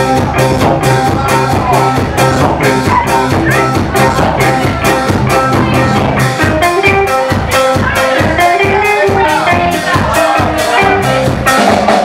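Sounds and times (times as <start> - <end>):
low held bass notes: 0.0 - 11.9
drum kit beat: 0.0 - 12.0
live rock band playing: 0.0 - 12.0.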